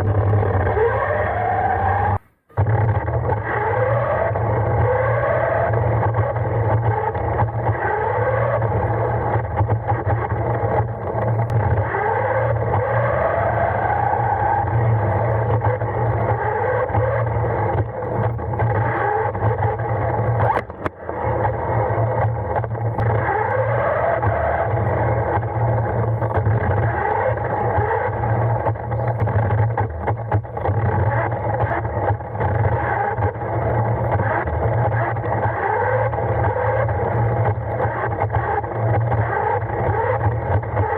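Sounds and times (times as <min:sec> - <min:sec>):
electric motor and gears whining: 0:00.0 - 0:40.9
low hum: 0:00.0 - 0:40.9
chassis clicks and rattles: 0:02.2 - 0:40.9.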